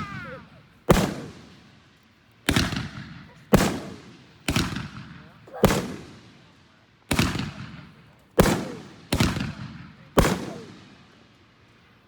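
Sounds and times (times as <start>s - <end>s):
fireworks bangs: 0.0s - 1.8s, 2.5s - 10.8s.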